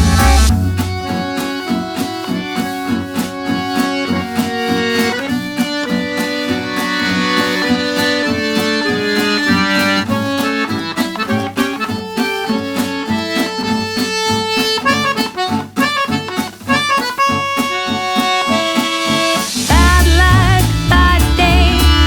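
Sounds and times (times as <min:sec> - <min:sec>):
accordion melody: 0:00.0 - 0:22.0
plucked guitar: 0:00.0 - 0:22.0.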